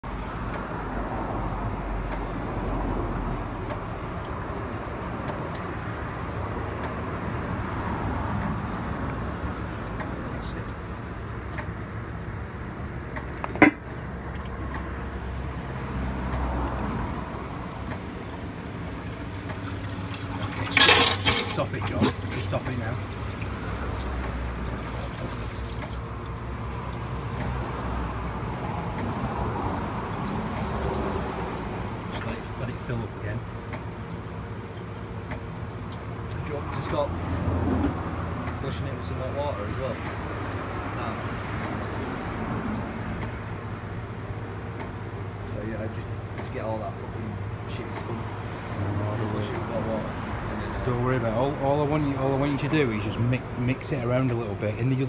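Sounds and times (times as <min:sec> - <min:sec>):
suction pump engine rumbling: 0:00.0 - 0:55.0.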